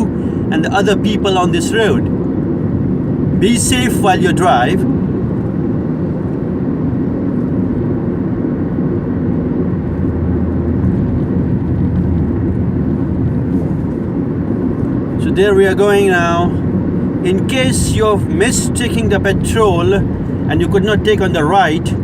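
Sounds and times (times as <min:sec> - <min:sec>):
car cruising on highway: 0:00.0 - 0:22.0.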